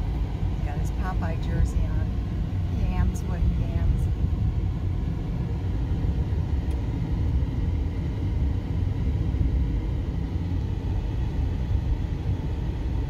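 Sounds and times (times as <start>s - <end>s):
car road and wind rumble: 0.0s - 13.0s.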